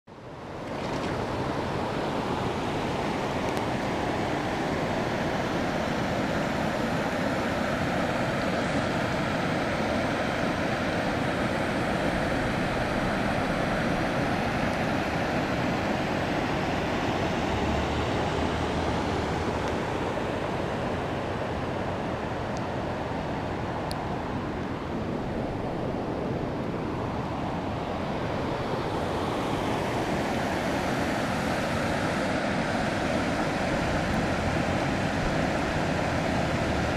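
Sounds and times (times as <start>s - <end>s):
floodwater rushing: 0.4s - 22.4s, 25.3s - 36.9s.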